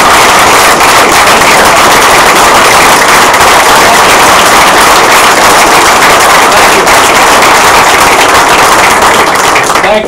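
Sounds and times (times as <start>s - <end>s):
distorted audience applause: 0.0s - 10.0s.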